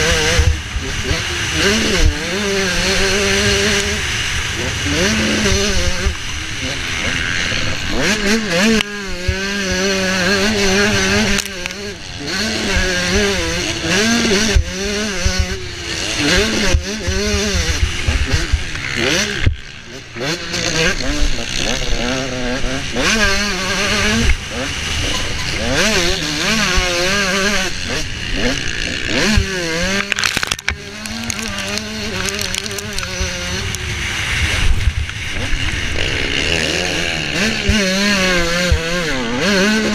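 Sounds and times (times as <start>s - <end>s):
motocross bike engine: 0.0s - 39.9s.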